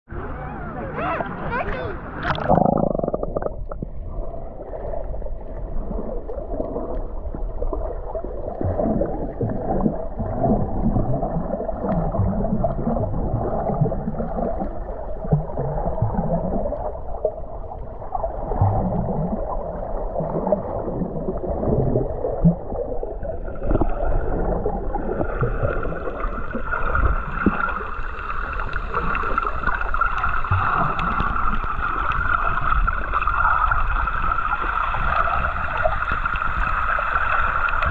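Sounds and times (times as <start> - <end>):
water gurgling underwater: 0.1 - 37.9.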